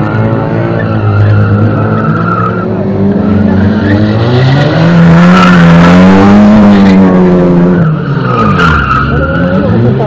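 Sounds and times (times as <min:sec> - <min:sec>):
car engine revving: 0:00.0 - 0:10.0
tyre squeal: 0:00.6 - 0:10.0.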